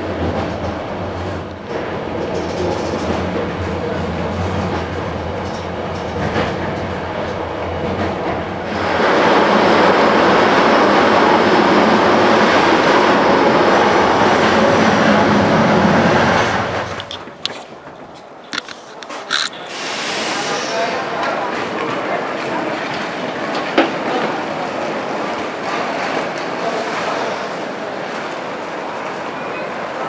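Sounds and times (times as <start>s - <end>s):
train rumbling from inside carriage: 0.0s - 30.0s.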